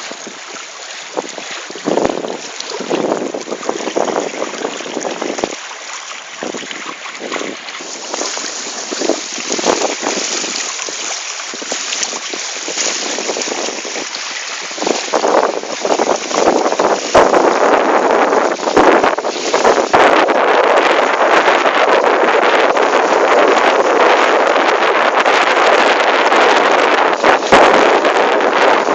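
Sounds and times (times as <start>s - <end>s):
water splashing along boat hulls: 0.0s - 28.9s
wind buffeting microphone: 0.0s - 28.9s.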